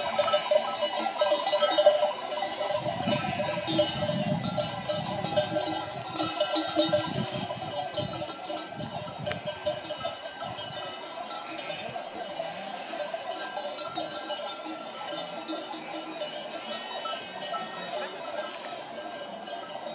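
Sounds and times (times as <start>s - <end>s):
sheep bells jangling: 0.0s - 19.9s.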